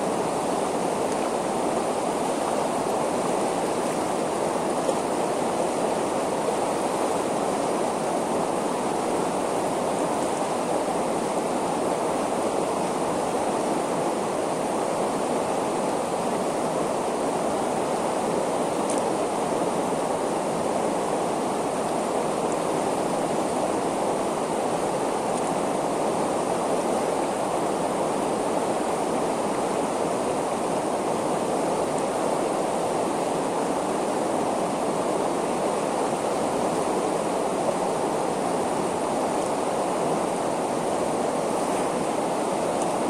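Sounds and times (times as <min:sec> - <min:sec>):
river rushing over rocks: 0:00.0 - 0:43.0.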